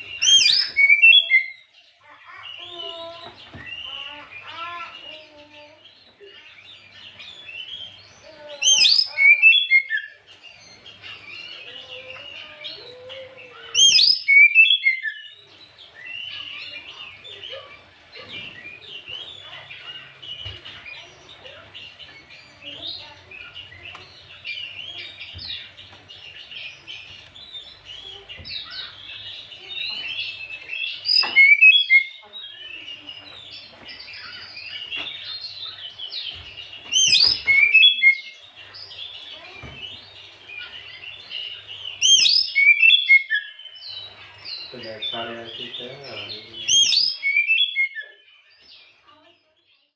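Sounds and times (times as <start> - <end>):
bird chattering and warbling song: 0.0 - 49.9.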